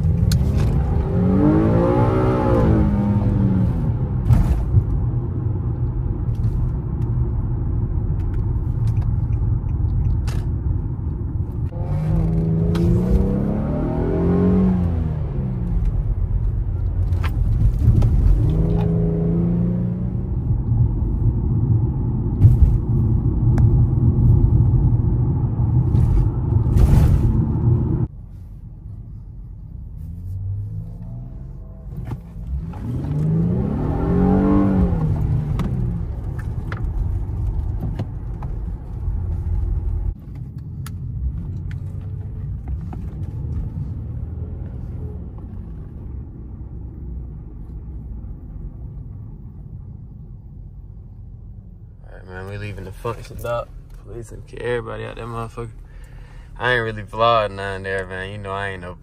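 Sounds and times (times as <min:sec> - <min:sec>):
car engine: 0:00.0 - 0:59.0
road rumble: 0:00.0 - 0:59.0.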